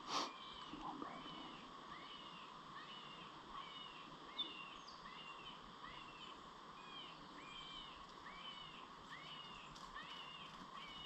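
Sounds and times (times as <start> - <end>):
soft background hiss: 0.0 - 11.0.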